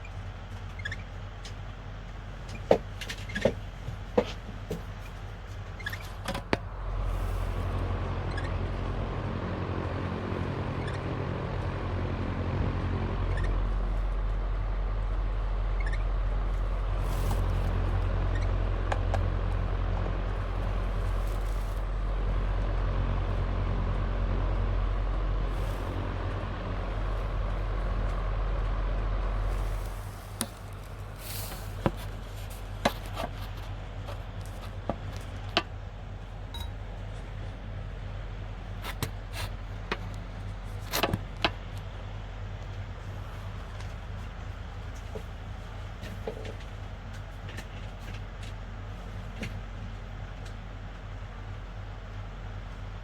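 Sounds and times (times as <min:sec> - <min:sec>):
fan loud low hum: 0:00.0 - 0:53.0
fan running quietly: 0:00.0 - 0:53.0.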